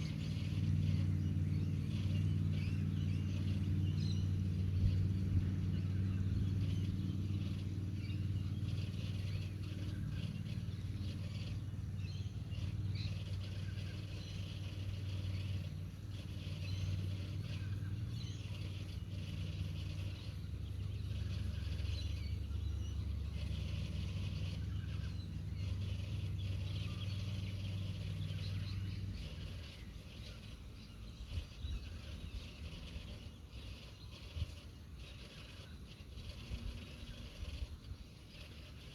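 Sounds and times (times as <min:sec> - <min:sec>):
birds chirping faintly: 0:00.0 - 0:38.9
low engine drone: 0:00.0 - 0:38.9.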